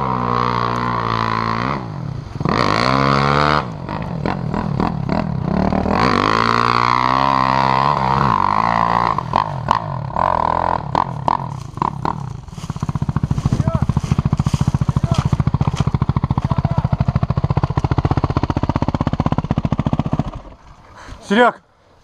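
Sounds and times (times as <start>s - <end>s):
dirt bike passing close: 0.0s - 21.0s
dirt bike engines revving: 0.0s - 21.6s.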